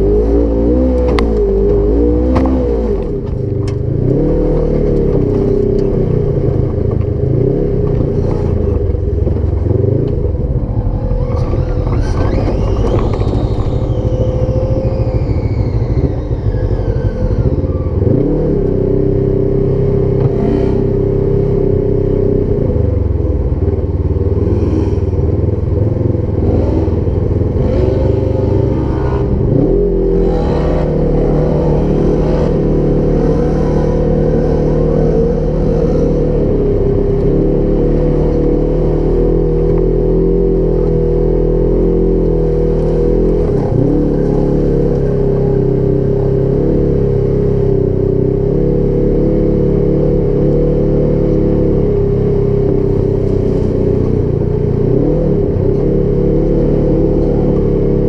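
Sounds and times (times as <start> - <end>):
high whine: 0.0 - 47.5
engine revving: 0.0 - 58.0.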